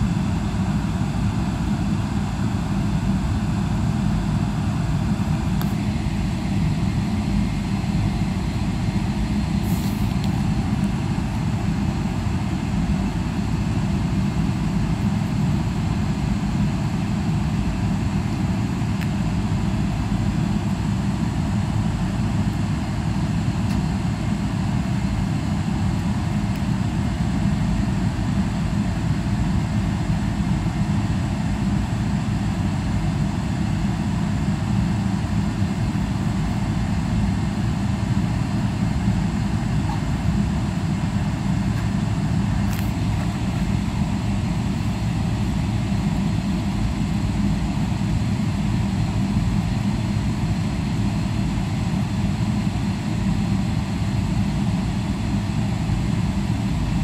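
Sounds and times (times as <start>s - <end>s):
jet engine rumble: 0.0s - 57.0s
cabin air hiss: 3.5s - 56.8s.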